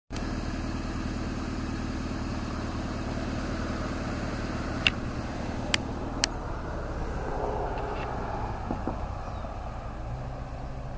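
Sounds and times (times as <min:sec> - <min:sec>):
vehicle engine idling: 0:00.1 - 0:10.9.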